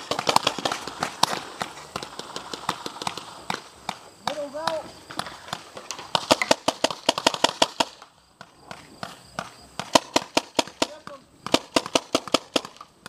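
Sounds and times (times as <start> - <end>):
paintball markers firing: 0.0 - 13.0.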